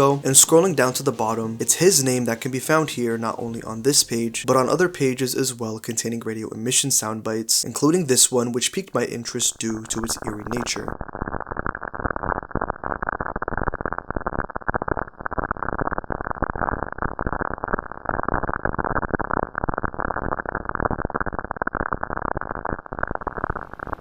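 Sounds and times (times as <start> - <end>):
fluttering crackling noise: 0.0 - 24.0.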